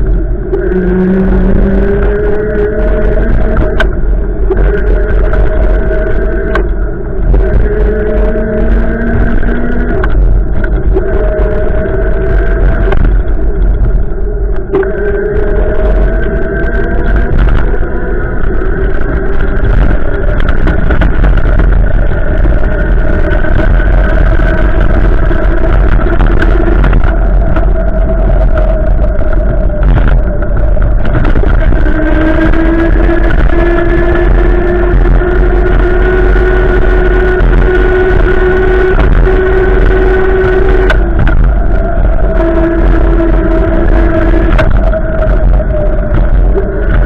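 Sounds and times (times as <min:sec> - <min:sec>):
whistling wind tones: 0:00.0 - 0:47.0
wind rumbling on microphone: 0:00.0 - 0:47.0.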